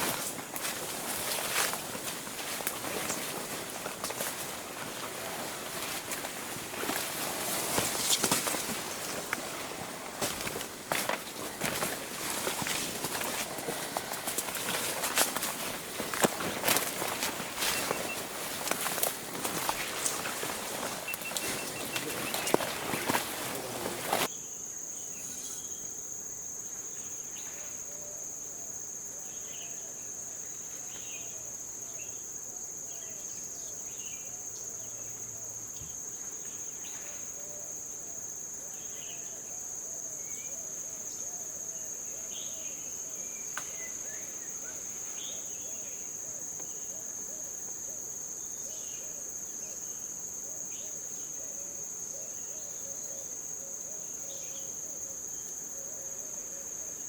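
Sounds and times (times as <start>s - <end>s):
insect chorus drone: 0.0s - 57.0s.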